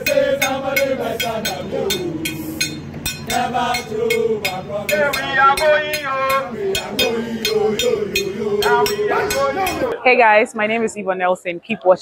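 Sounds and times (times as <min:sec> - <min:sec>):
quick percussive beat: 0:00.0 - 0:10.0
voices chanting held notes: 0:00.0 - 0:10.0.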